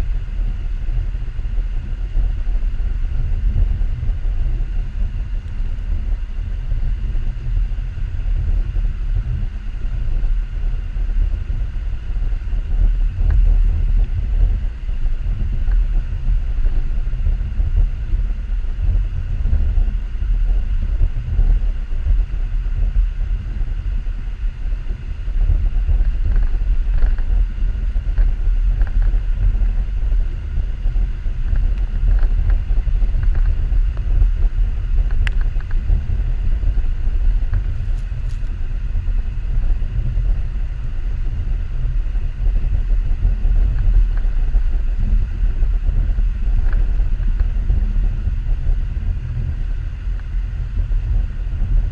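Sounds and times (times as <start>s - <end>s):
vehicle low rumble: 0.0s - 51.9s.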